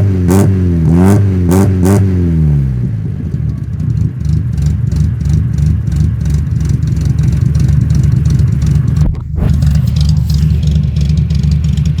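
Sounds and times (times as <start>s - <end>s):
car engine deep exhaust rumble: 0.0s - 12.0s.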